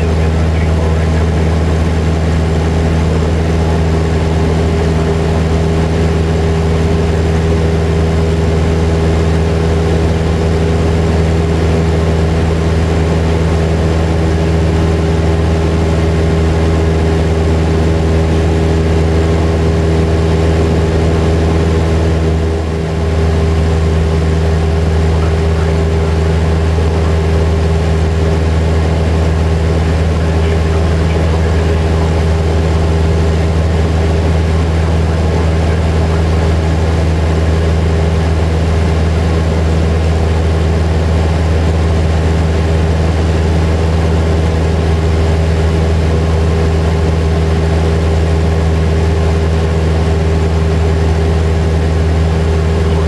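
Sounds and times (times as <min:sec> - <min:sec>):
airplane engine drone in cabin: 0:00.0 - 0:53.0.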